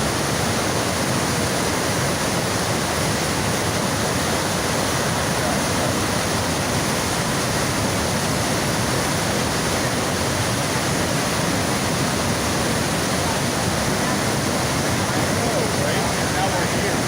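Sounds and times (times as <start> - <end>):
rush of river rapids: 0.0 - 17.0.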